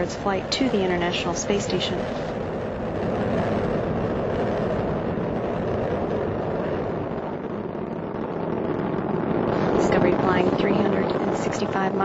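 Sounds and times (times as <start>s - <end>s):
rocket exhaust roar: 0.0s - 12.0s.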